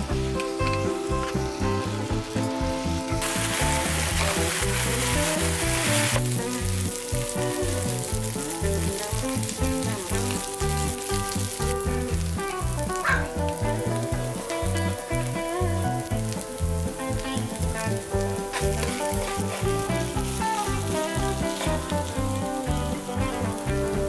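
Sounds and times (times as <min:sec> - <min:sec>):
background music: 0:00.0 - 0:24.0
food sizzling in a frying pan: 0:00.0 - 0:24.0.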